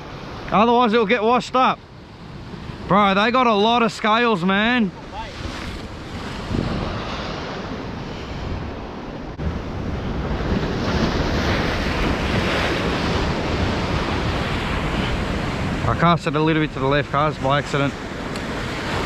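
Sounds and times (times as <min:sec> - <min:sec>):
ocean surf washing against rocks: 0:00.0 - 0:19.0
wind buffeting microphone: 0:02.0 - 0:19.0.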